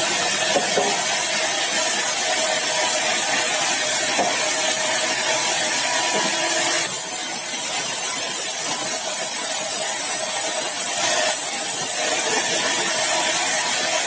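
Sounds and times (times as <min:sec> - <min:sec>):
sawmill saw cutting wood: 0:00.0 - 0:14.0.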